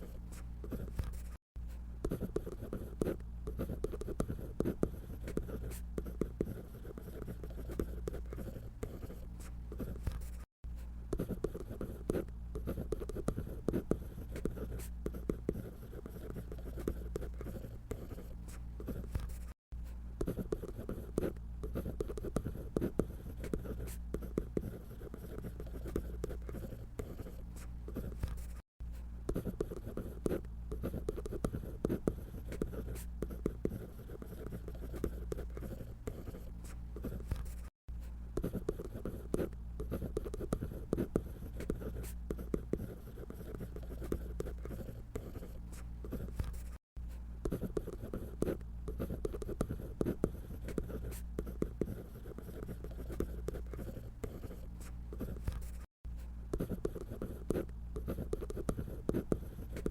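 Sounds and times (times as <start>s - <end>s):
drawing tool scratching on paper: 0.0s - 1.4s, 2.0s - 10.5s, 11.1s - 19.6s, 20.2s - 28.6s, 29.3s - 37.7s, 38.4s - 46.8s, 47.5s - 55.9s, 56.5s - 59.9s.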